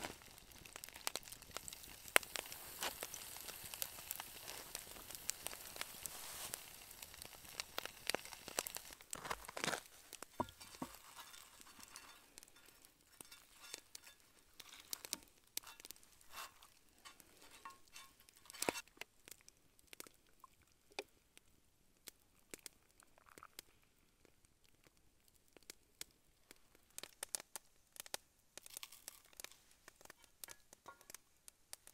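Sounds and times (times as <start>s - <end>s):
campfire crackling and popping: 0.0s - 31.9s
soft sizzling hiss: 0.0s - 31.9s.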